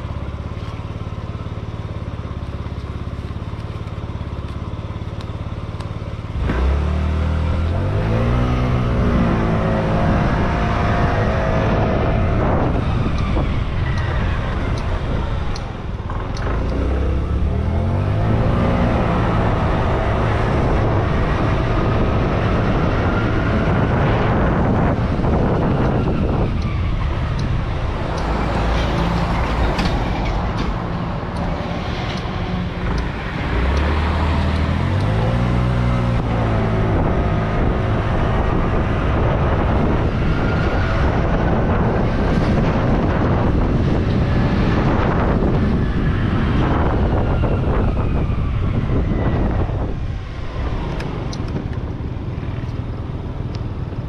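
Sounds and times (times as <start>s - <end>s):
wind rushing over microphone: 6.4s - 54.0s.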